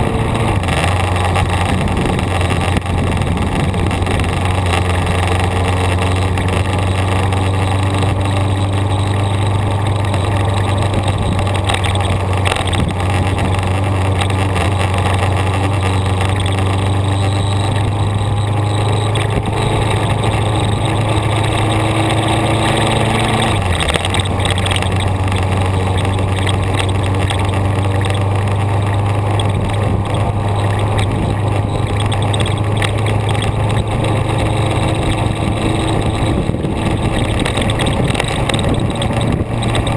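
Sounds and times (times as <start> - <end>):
road and wind noise: 0.0 - 39.9
vehicle engine droning: 0.0 - 39.9.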